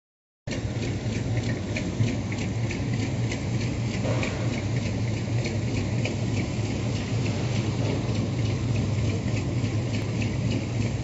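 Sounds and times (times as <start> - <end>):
sharp repeating tick: 0.5 - 7.3, 8.1 - 11.0
engine idling: 0.5 - 11.0.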